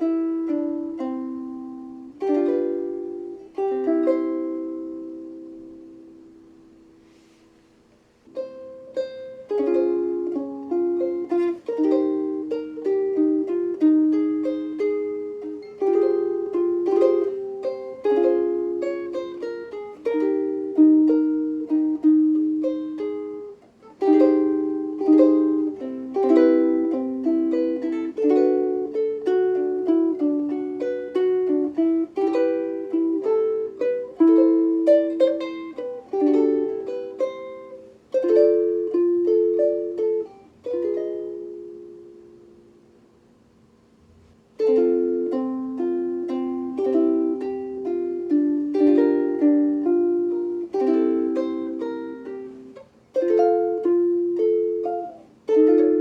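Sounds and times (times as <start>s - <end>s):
ukulele plucked melody: 0.0s - 56.0s.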